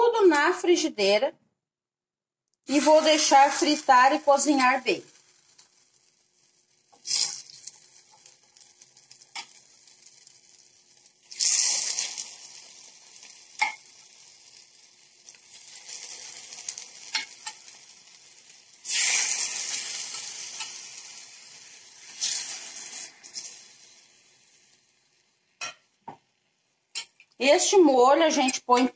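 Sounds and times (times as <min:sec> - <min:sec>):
chicken sizzling in hot oil: 0:02.7 - 0:25.8.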